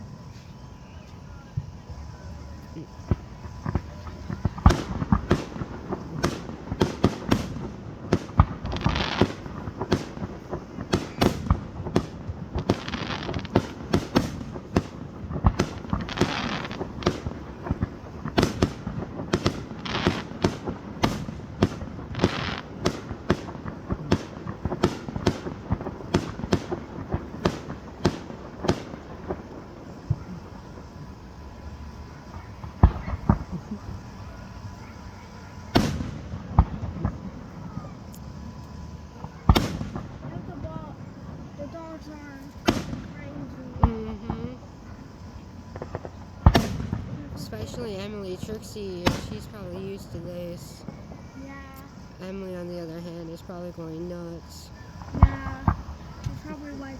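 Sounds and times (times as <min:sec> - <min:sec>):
fireworks bangs: 0:00.0 - 0:56.9
fireworks crackling: 0:00.0 - 0:56.9.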